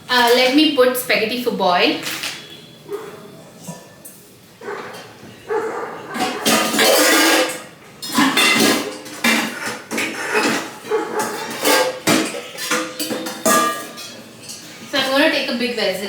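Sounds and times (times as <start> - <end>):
metal pots clattering: 2.0 - 15.4.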